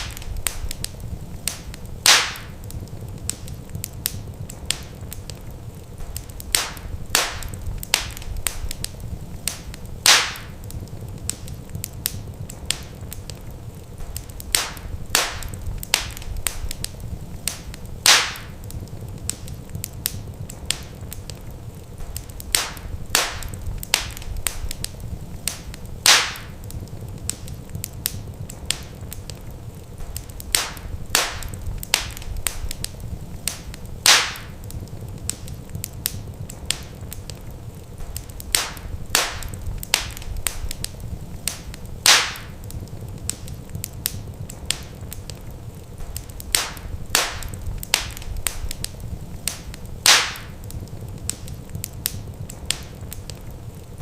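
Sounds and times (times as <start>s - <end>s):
burning logs snapping and popping: 0.0s - 54.0s
low rumble of flame: 0.0s - 54.0s.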